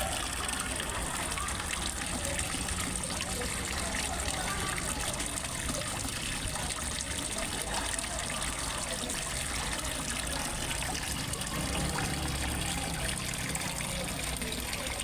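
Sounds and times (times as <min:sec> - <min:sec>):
water trickling into pond: 0:00.0 - 0:15.0.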